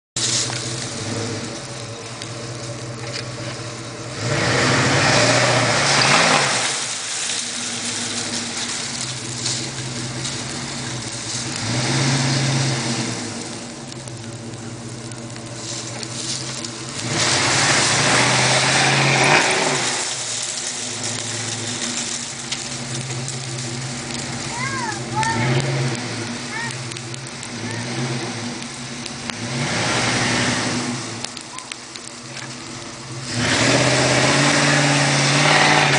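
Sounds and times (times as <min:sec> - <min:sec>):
vehicle engine revving: 0:00.2 - 0:35.9.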